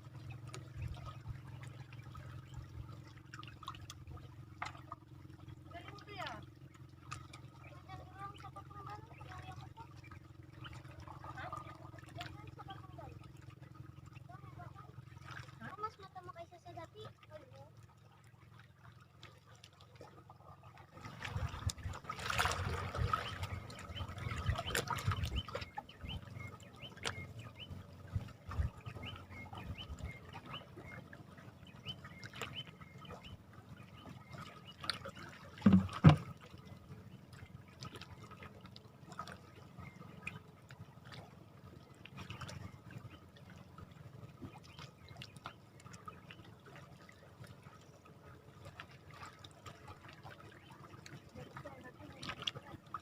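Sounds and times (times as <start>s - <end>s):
water lapping at shoreline: 0.0s - 53.0s.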